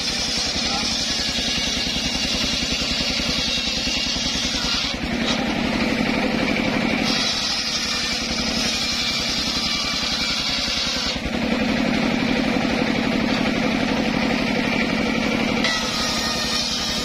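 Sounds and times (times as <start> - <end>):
circular saw engine running: 0.0 - 17.0
saw blade cutting log: 0.0 - 17.0.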